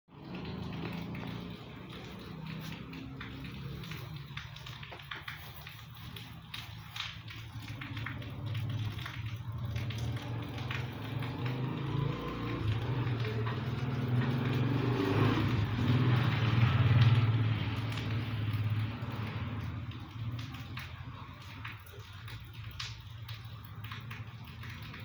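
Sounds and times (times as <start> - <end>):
vehicle engine low hum: 0.1 - 25.0.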